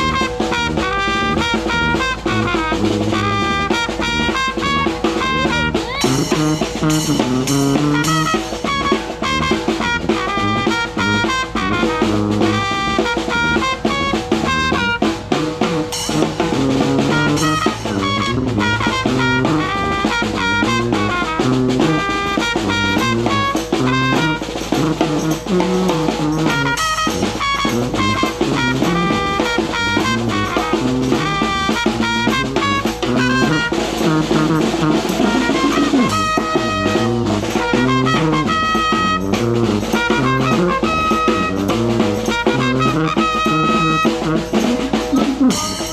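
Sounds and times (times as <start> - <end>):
snare drum beat: 0.0 - 45.9
sousaphone bass line: 0.0 - 45.9
trumpet lead: 0.0 - 45.9.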